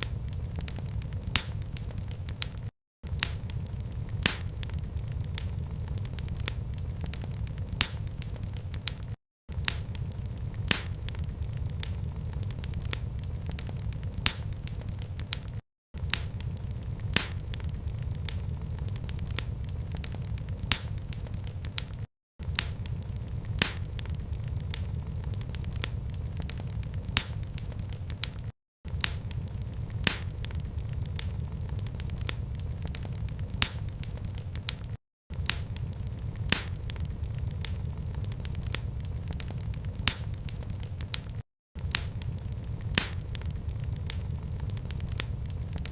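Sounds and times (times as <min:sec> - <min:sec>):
fireplace fire crackling: 0:00.0 - 0:45.9.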